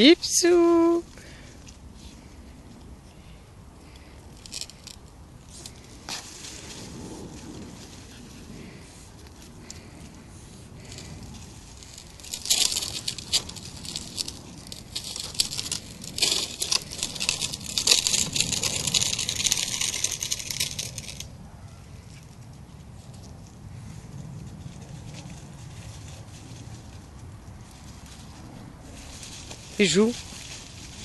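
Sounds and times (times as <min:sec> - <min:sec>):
leaves and twigs rustling: 0:00.0 - 0:31.0.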